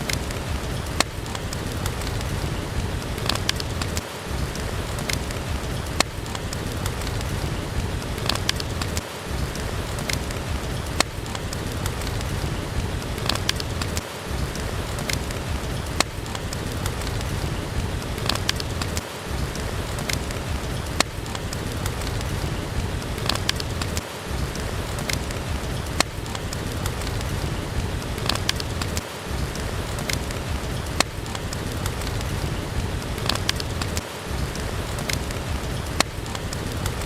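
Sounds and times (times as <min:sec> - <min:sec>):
heavy rain: 0:00.0 - 0:37.0
wood fire crackling: 0:00.0 - 0:37.0.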